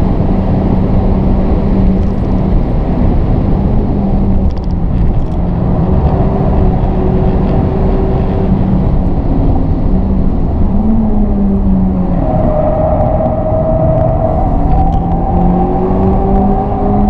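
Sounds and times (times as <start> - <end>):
car engine revving: 0.0 - 17.0
wind noise: 0.0 - 17.0.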